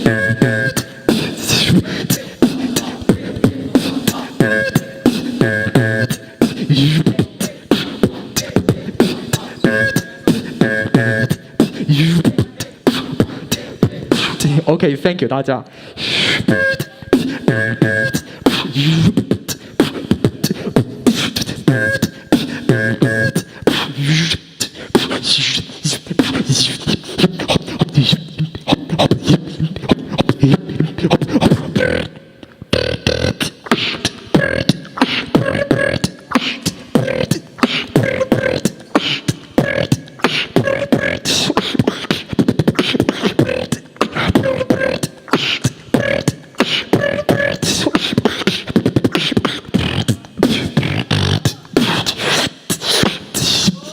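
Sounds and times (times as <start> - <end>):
person beatboxing: 0.0 - 53.9.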